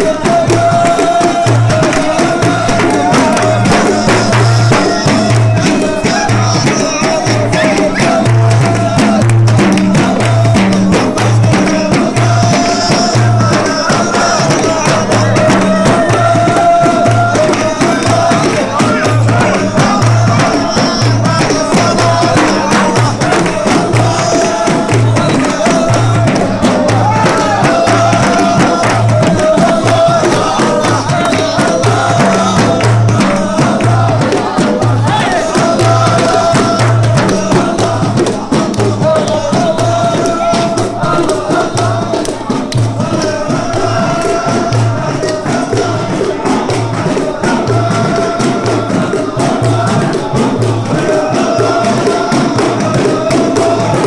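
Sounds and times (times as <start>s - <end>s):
frame drums beating: 0.0s - 54.0s
men chanting together: 0.0s - 54.0s.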